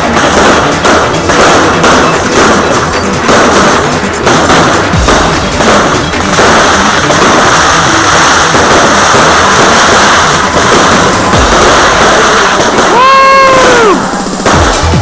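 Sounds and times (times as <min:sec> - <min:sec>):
deep firework boom: 0:00.0 - 0:15.0
fireworks crackling: 0:00.0 - 0:15.0.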